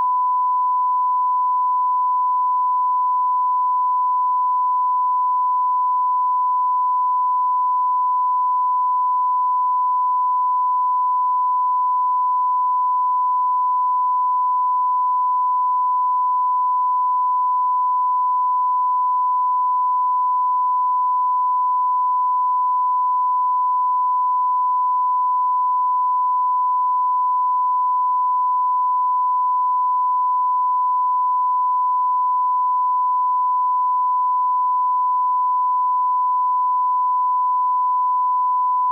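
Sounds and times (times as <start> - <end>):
censor bleep tone: 0.0 - 38.9.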